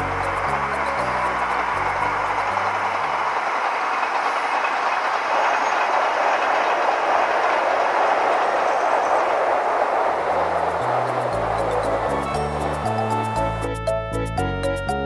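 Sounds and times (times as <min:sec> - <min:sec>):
electric train wheels on rails: 0:00.0 - 0:15.0.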